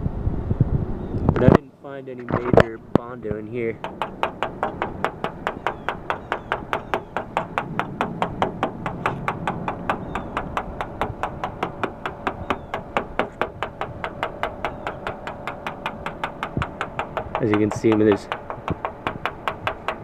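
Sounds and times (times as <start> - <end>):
rapid even ticking: 2.8 - 20.0.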